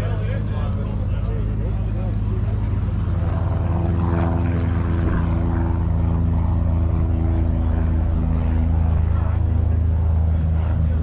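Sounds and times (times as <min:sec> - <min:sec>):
engine droning hum: 0:00.0 - 0:11.0.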